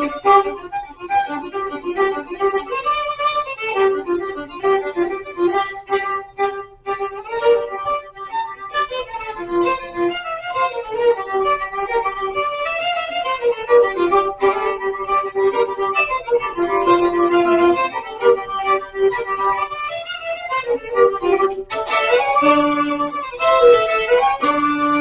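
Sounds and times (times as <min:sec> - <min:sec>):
fiddle melody: 0:00.0 - 0:25.0.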